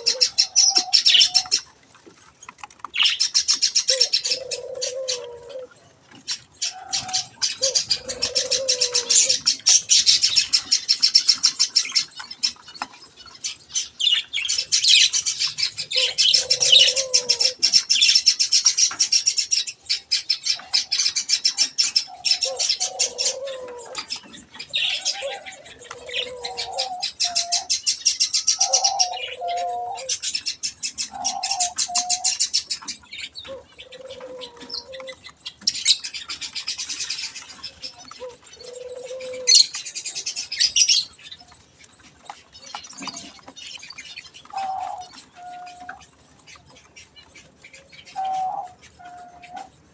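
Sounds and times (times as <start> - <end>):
budgerigars chattering: 0.0 - 1.8, 2.7 - 49.9
low warbling bird calls: 0.0 - 1.8, 2.8 - 49.9.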